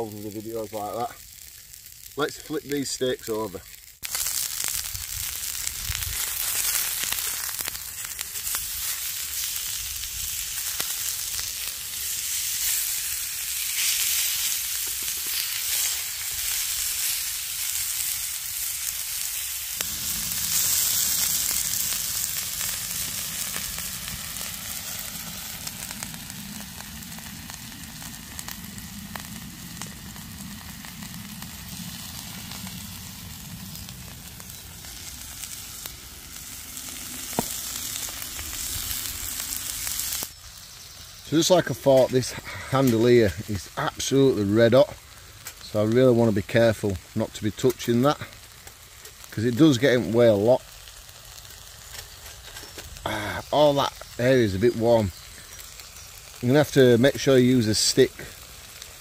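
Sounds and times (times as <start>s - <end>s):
steaks sizzling in frying pan: 0.0s - 59.0s.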